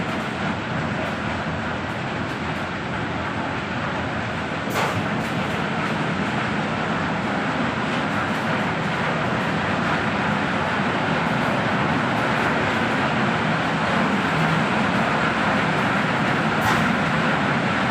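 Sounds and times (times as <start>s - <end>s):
industrial machinery rumble and hiss: 0.0s - 17.9s.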